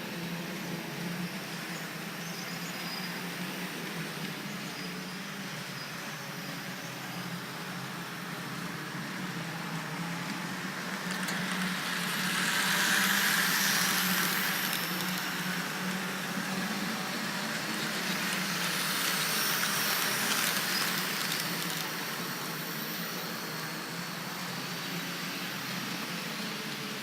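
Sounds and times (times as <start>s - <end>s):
model tram motor whirring: 0.1s - 27.0s.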